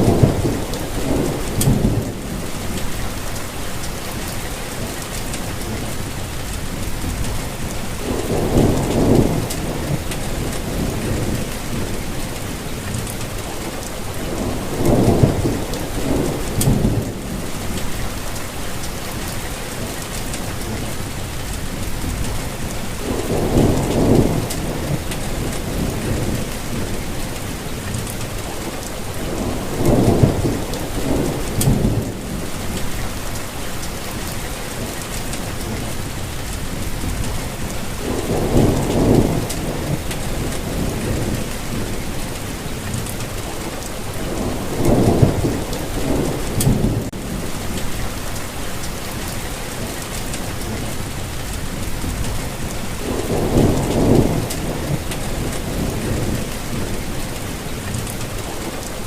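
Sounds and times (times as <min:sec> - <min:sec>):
steady rainfall: 0:00.0 - 0:59.0
thunder rumbles: 0:00.0 - 0:59.0.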